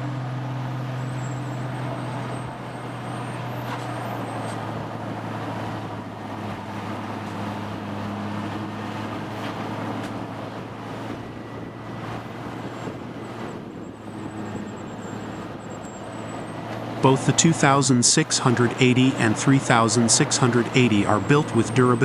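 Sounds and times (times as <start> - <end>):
wood grinder engine drone: 0.0 - 22.0.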